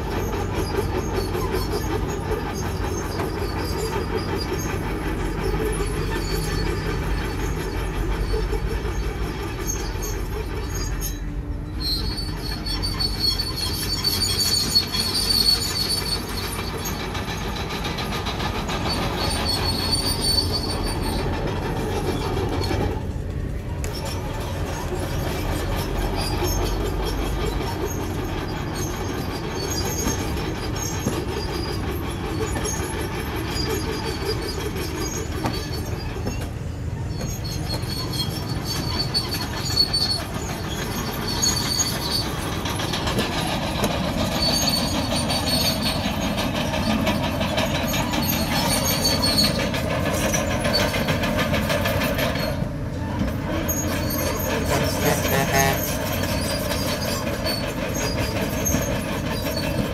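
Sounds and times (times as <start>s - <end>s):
bulldozer diesel engine: 0.0s - 59.9s
steel tracks squealing: 0.0s - 59.9s
track clatter: 0.0s - 59.9s.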